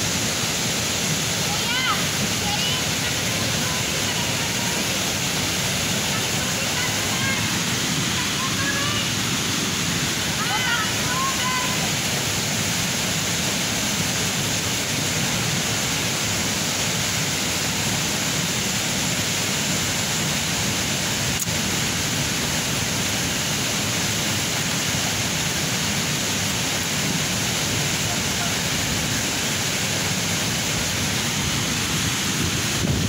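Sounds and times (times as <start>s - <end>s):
river and waterfall rushing: 0.0s - 33.0s.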